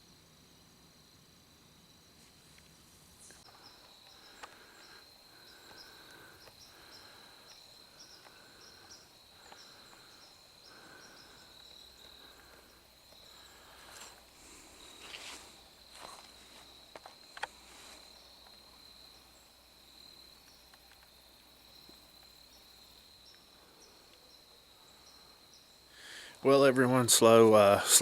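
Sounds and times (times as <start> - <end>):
insect pulsing call: 0.0 - 28.0
insect high trill: 2.1 - 28.0.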